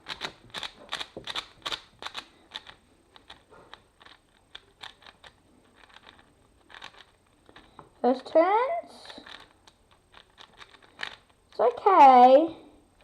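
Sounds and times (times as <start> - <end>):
speed cube plastic clicks: 0.0 - 8.4, 9.0 - 11.9.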